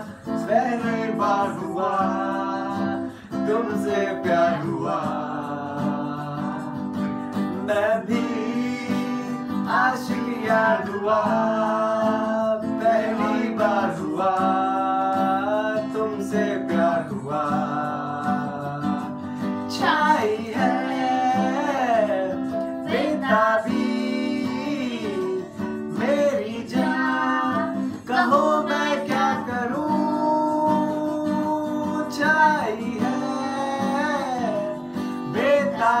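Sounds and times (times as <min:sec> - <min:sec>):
man singing: 0:00.0 - 0:36.0
strummed acoustic guitar: 0:00.0 - 0:36.0.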